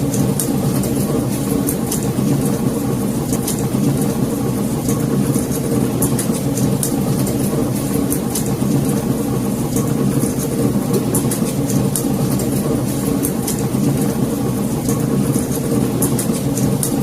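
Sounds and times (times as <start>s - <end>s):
wood fire rumbling: 0.0s - 17.0s.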